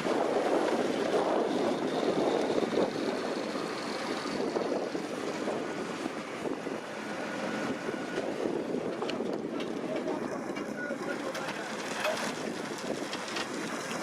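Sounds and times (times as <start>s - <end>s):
tractor and harvester running: 0.0s - 14.0s.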